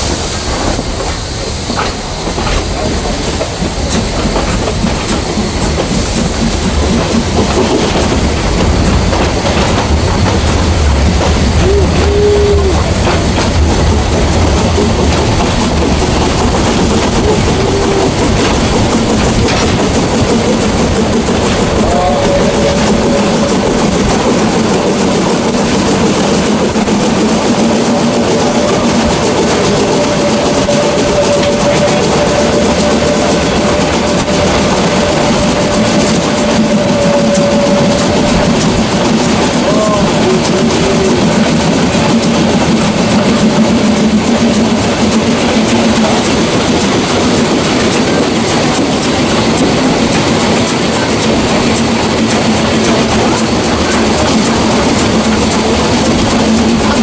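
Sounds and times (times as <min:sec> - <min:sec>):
steam hissing: 0:00.0 - 0:57.0
train wheels clattering over rails: 0:00.0 - 0:57.0.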